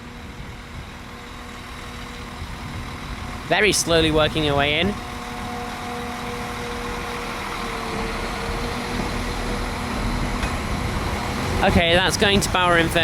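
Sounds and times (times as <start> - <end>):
train diesel engine humming: 0.0 - 13.0.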